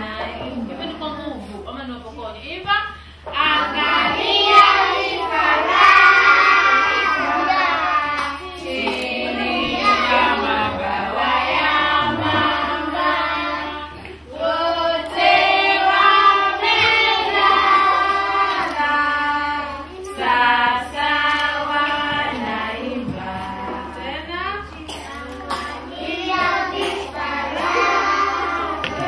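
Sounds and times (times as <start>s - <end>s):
children singing together: 3.3s - 29.0s.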